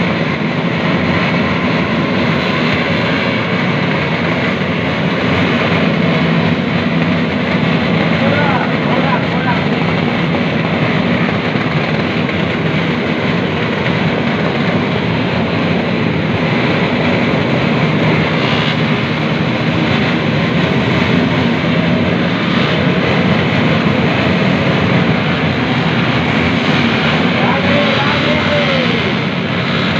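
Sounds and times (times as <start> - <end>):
many motorcycle engines running: 0.0 - 29.9.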